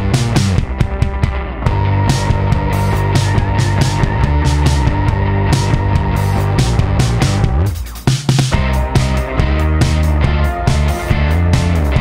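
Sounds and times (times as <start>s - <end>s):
rock music with drums: 0.0s - 12.0s.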